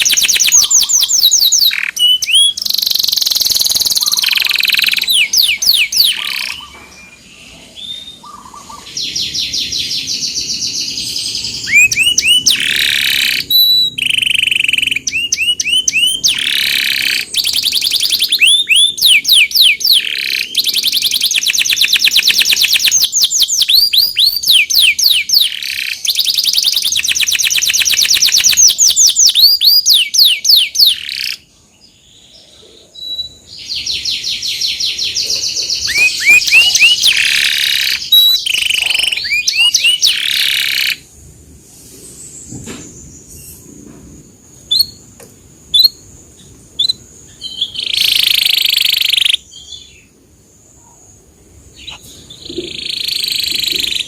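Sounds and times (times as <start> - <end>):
canary singing trills: 0.0 - 41.1, 44.5 - 54.0.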